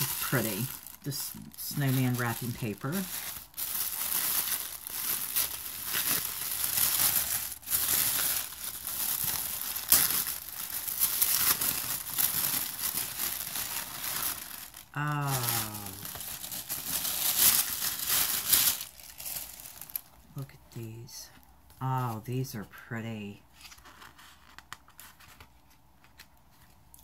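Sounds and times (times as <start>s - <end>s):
wrapping paper crinkling and tearing: 0.0s - 27.0s.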